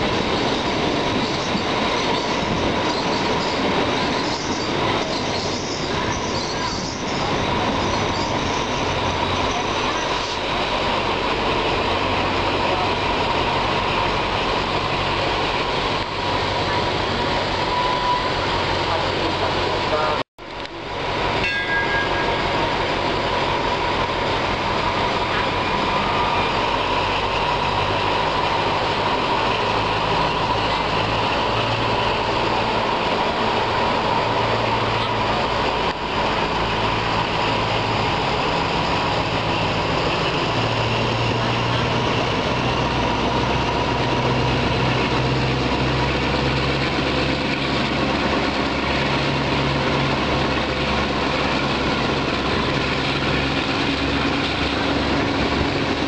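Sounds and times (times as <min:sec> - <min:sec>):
diesel train engine drone: 0:00.0 - 0:56.0.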